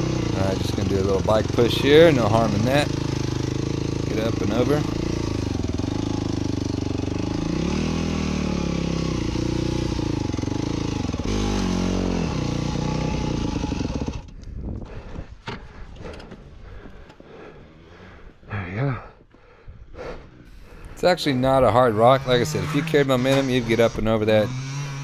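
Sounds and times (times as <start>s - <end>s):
dirt bike engine revving: 0.0s - 14.4s, 17.4s - 18.5s, 20.3s - 25.0s.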